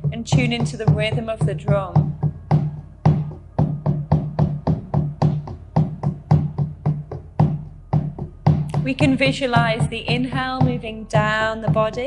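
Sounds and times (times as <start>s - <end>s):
frame drum struck with beater: 0.0s - 12.0s.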